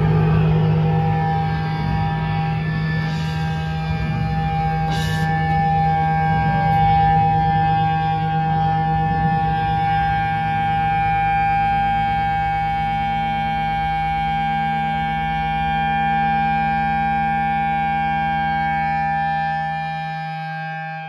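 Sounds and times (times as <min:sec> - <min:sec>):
band holding sustained chord: 0:00.0 - 0:21.0.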